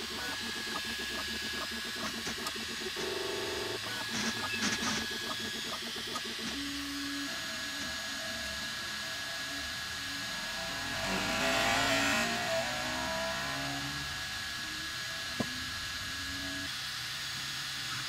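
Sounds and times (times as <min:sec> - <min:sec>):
printer motors whining: 0:00.0 - 0:18.0.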